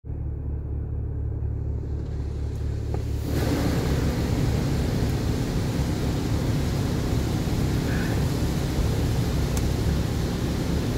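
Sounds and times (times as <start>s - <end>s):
car engine idling: 0.1s - 10.9s
car wash water rushing hiss: 1.8s - 10.9s.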